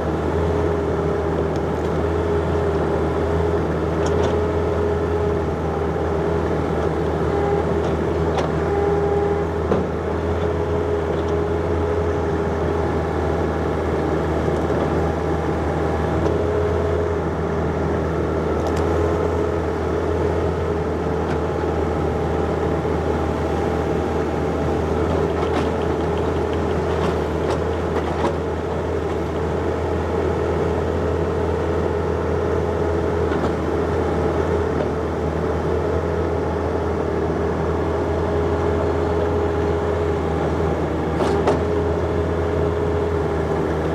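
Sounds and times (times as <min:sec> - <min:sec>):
diesel engine running under load: 0:00.0 - 0:43.9
engine whine: 0:00.0 - 0:43.9.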